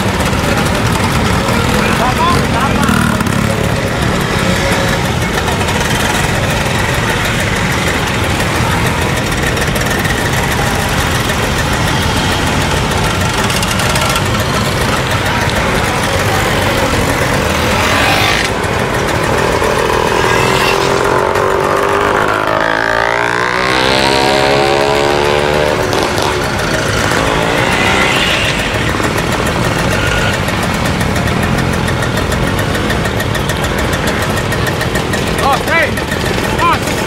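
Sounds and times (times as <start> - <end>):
scooter engines revving: 0.0 - 37.0.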